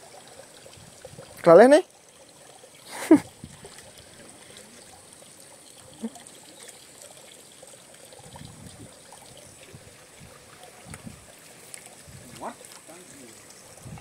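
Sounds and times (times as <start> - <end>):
water trickling in a ditch: 0.0 - 14.0.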